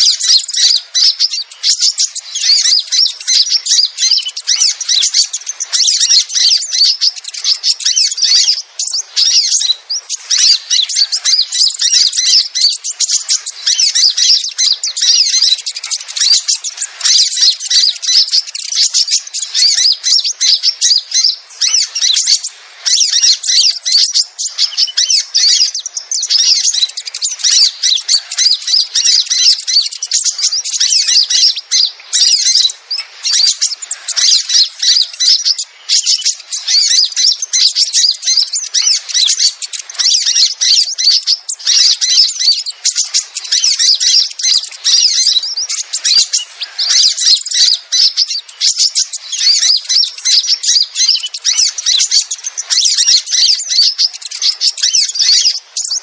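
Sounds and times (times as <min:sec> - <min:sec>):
birds chirping and squawking: 0:00.0 - 0:56.0.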